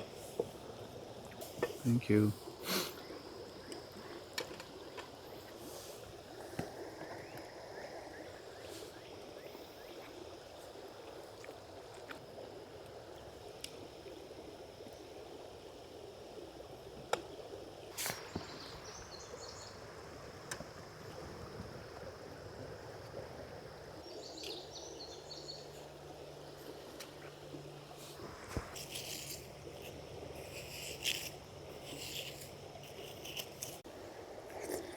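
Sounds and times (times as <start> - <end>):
creek water running: 0.0 - 34.9.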